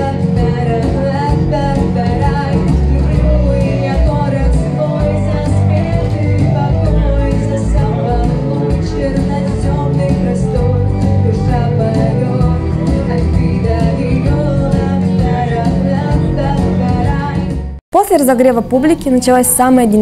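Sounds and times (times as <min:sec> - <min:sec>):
woman singing into microphone: 0:00.0 - 0:17.6
instrumental accompaniment: 0:00.0 - 0:20.0.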